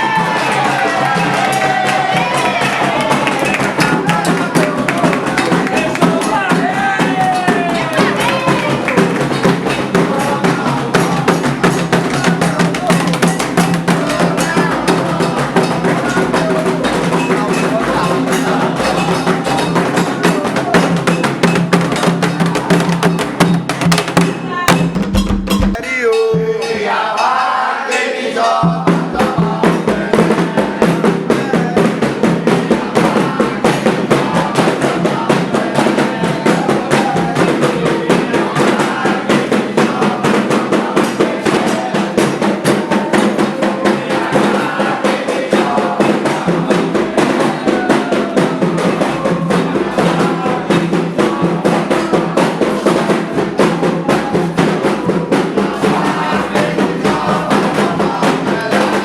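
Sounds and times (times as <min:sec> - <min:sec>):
hand drums playing fast: 0:00.0 - 0:59.0.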